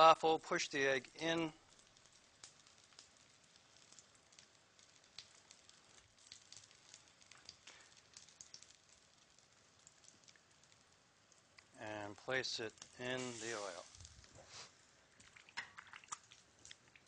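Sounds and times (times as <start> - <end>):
oil sizzling in a hot pan: 0.0 - 17.0
small crackles and pops: 0.0 - 17.0.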